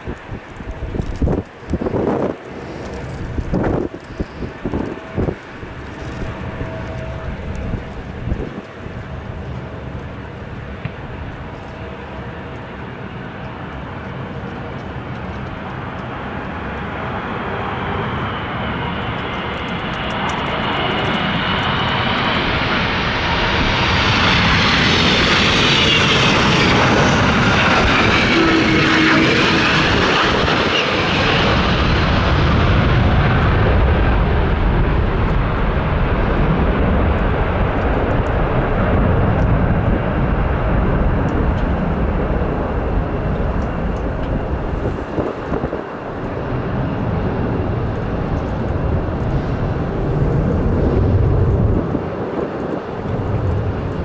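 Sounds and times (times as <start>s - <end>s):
jet airliner flying past: 0.0s - 54.0s.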